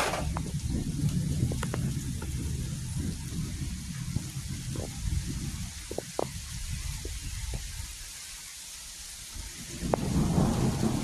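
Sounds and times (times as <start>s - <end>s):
low rumble of thunder: 0.0s - 8.0s, 9.3s - 11.0s
sharp ticks of raindrops: 0.0s - 11.0s
steady rain: 0.0s - 11.0s.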